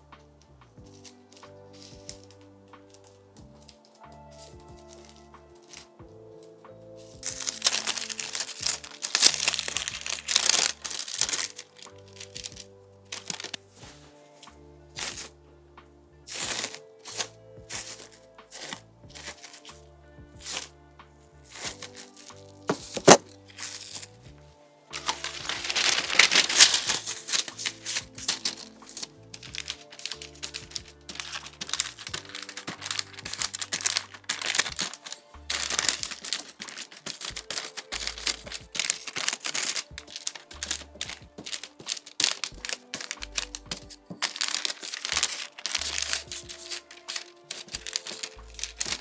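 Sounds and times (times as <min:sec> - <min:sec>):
background music: 0:00.0 - 0:49.0
plastic wrap and paper crinkling: 0:01.0 - 0:02.4, 0:03.7 - 0:05.9, 0:07.0 - 0:14.4, 0:15.0 - 0:15.3, 0:16.3 - 0:19.8, 0:20.4 - 0:20.7, 0:21.5 - 0:24.1, 0:24.9 - 0:49.0.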